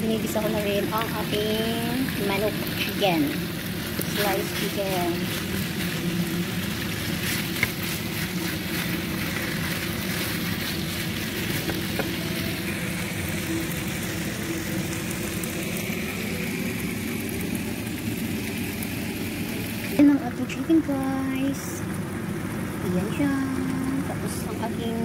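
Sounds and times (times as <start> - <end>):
food frying in a pan: 0.0 - 25.0
low steady hum: 0.0 - 25.0.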